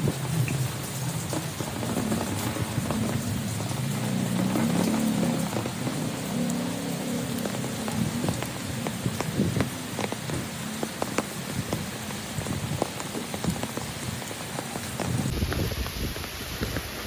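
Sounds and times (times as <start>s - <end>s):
rain falling: 0.0s - 17.0s
raindrops striking close by: 0.0s - 17.0s.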